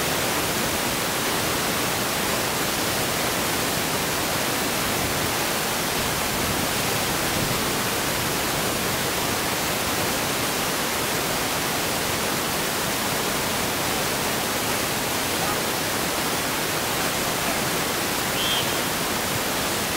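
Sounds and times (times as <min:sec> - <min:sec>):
steady static hiss: 0:00.0 - 0:19.9.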